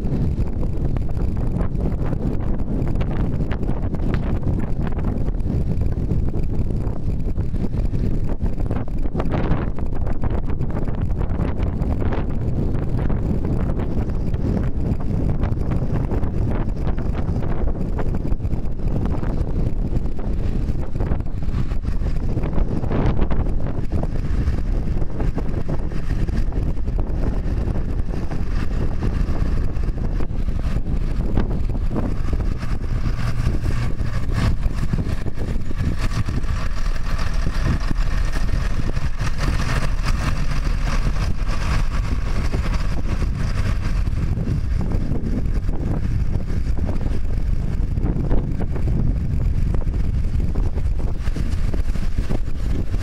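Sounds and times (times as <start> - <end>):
tractor diesel engine passing: 0.0 - 53.0
wind on microphone: 0.0 - 53.0.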